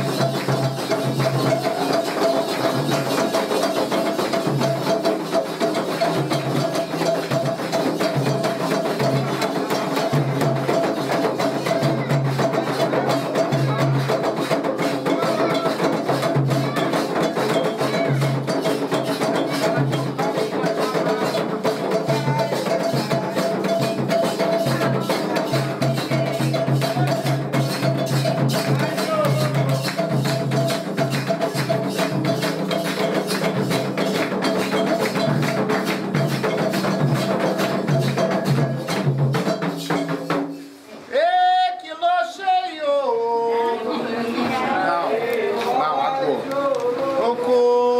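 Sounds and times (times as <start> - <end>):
hand drums pulsing: 0.0 - 40.5
bell or wood-block pattern: 0.0 - 40.6
voices singing: 5.7 - 40.1, 41.0 - 47.9.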